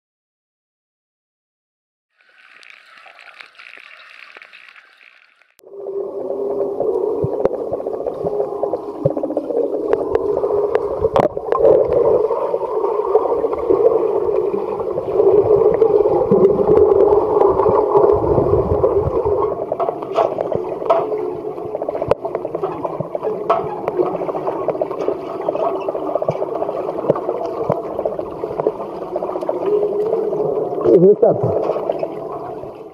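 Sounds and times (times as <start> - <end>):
underwater churning water and bubbles: 2.2 - 32.9.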